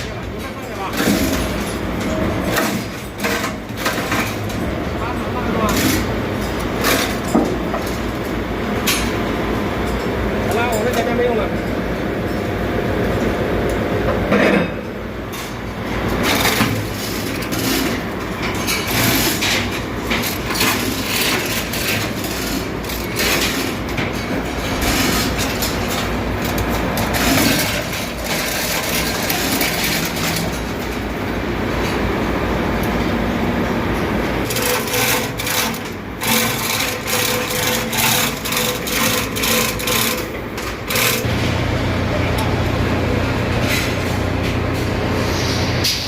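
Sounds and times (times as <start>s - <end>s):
engine-room machinery hum: 0.0s - 46.0s.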